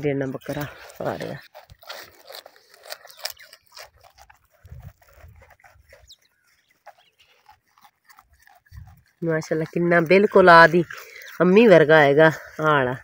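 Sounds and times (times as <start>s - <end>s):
goats crunching fodder: 0.0s - 13.0s.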